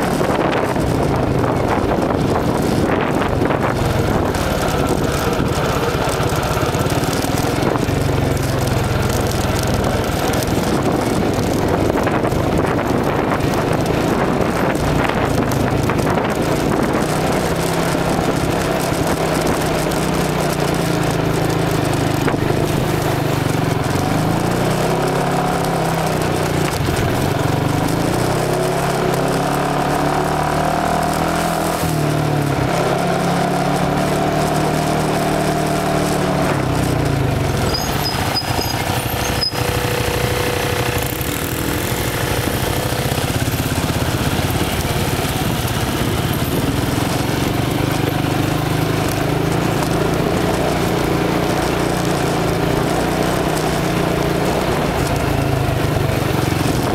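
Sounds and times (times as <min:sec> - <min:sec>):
atv engine running: 0:00.0 - 0:56.9.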